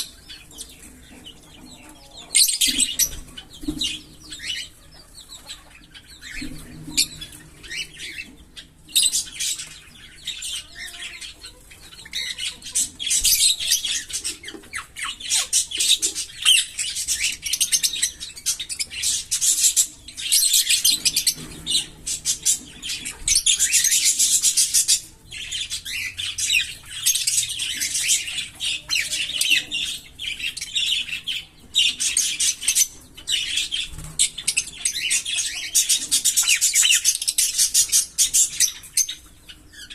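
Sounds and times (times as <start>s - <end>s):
lovebirds chattering and chirping: 0.0s - 39.9s.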